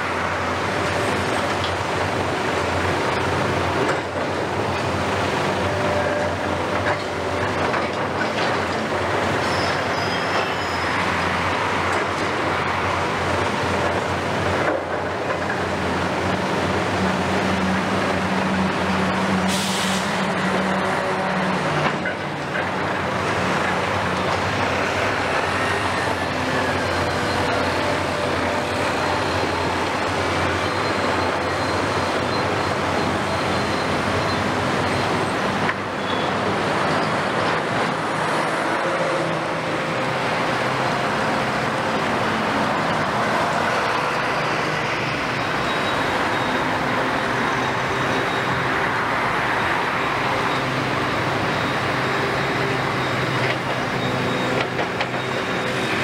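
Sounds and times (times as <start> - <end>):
excavator diesel engines: 0.0 - 56.0
trucks passing: 0.0 - 56.0.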